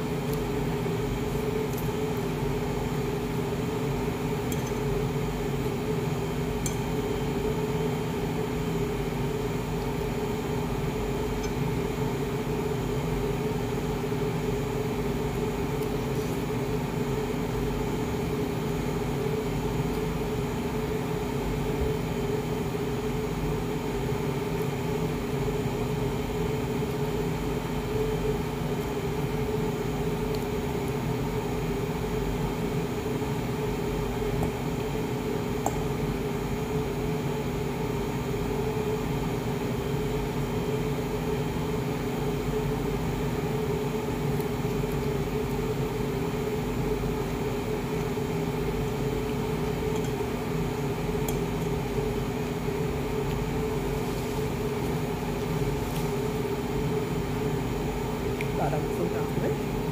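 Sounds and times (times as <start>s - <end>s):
fan machine whirring hum: 0.0s - 59.9s.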